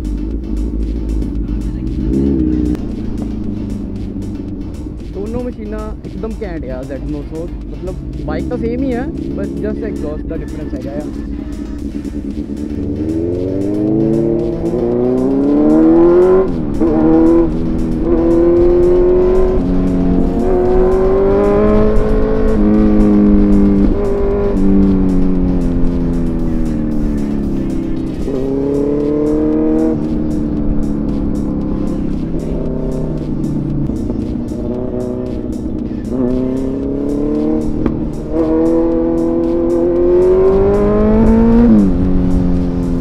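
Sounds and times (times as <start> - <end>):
motorcycle engine shifting gears: 0.0 - 43.0
music with steady beat: 0.0 - 43.0.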